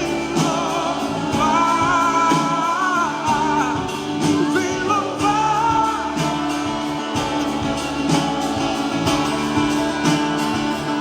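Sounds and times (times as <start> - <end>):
guitar: 0.0 - 11.0
steady drum beat: 0.0 - 11.0
sustained keyboard chords: 0.0 - 11.0.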